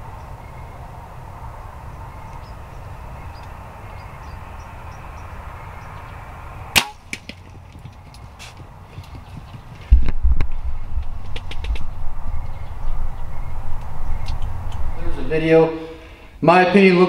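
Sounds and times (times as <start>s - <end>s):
steady low background noise: 0.0s - 17.0s.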